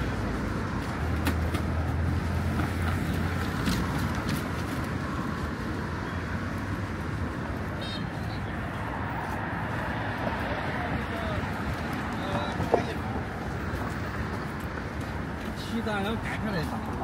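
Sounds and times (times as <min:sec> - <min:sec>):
city hum: 0:00.0 - 0:17.0.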